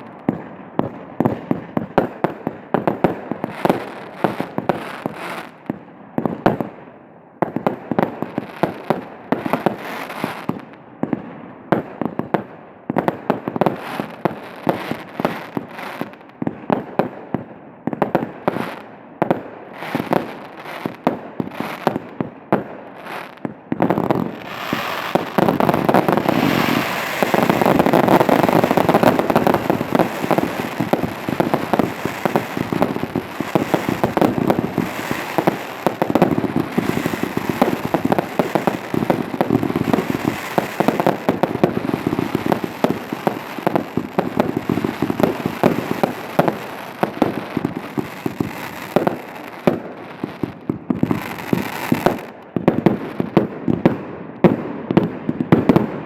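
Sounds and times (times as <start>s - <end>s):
fireworks crackling barrage: 0.0s - 56.0s
firework bangs: 7.4s - 56.0s.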